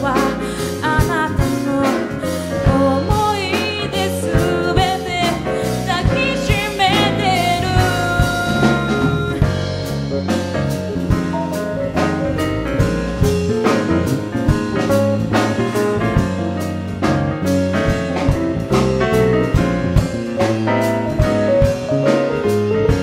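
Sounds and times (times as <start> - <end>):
drum kit steady beat: 0.0 - 23.0
instrumental band playing: 0.0 - 23.0.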